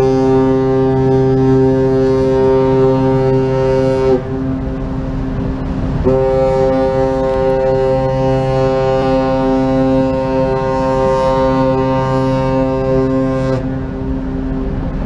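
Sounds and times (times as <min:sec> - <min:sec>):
ship whistle blasts: 0:00.0 - 0:04.6, 0:06.0 - 0:13.9.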